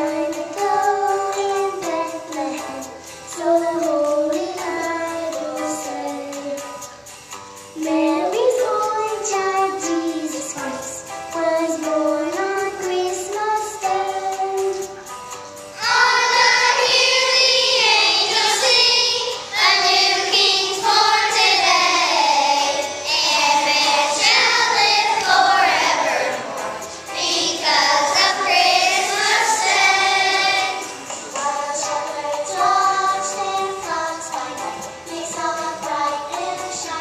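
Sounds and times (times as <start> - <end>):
children singing together: 0.0 - 6.9, 7.8 - 15.0, 15.7 - 37.0.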